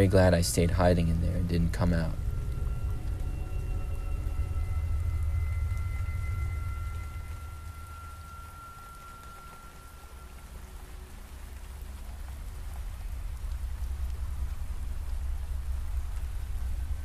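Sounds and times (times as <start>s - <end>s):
deep low rumble: 0.0s - 17.0s
steady rain falling: 0.0s - 17.0s.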